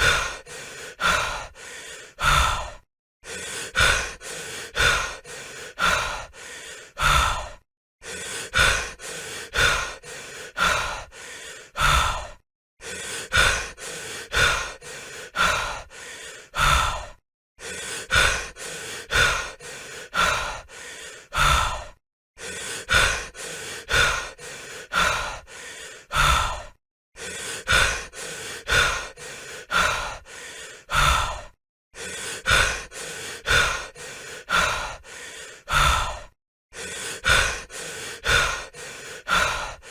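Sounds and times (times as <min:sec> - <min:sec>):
heavy human breathing: 0:00.0 - 0:39.9.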